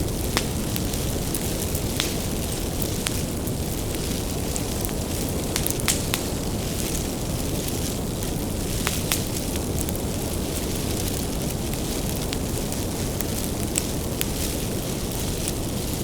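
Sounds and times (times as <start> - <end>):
bonfire flames rushing: 0.0 - 16.0
burning wood crackling: 0.0 - 16.0.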